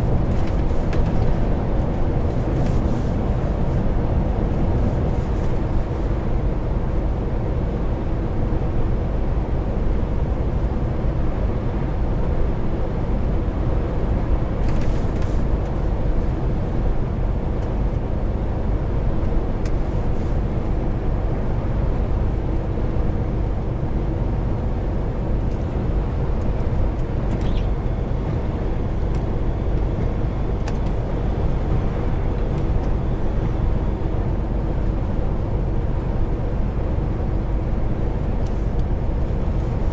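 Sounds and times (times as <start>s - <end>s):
road and tyre noise: 0.0s - 39.9s
truck diesel engine droning: 0.0s - 39.9s.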